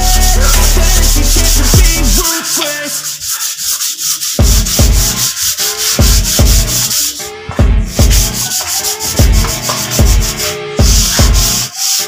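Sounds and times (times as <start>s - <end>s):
sandpaper rubbing on wood: 0.0s - 7.3s, 7.9s - 12.0s
music with deep beat: 0.0s - 12.0s.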